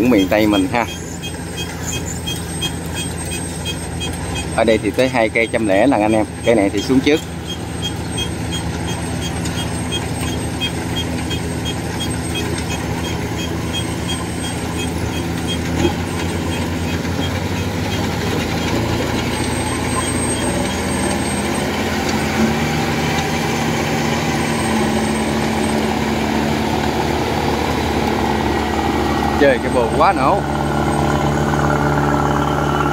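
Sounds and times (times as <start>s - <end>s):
combine harvester engine droning: 0.0s - 32.9s.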